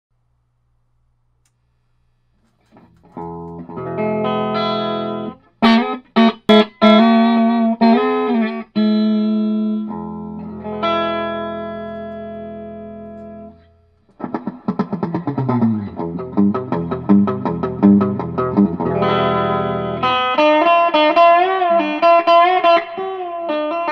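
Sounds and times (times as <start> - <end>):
electric guitar chords: 2.7 - 23.9.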